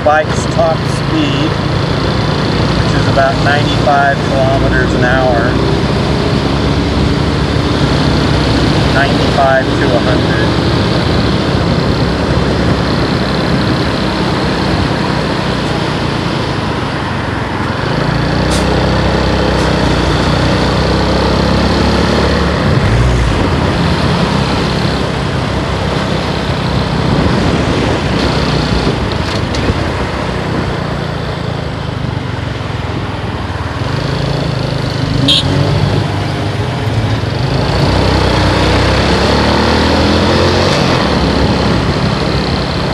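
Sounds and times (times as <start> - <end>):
motorcycle engine drone: 0.0 - 42.9
wind and road rush: 0.0 - 42.9.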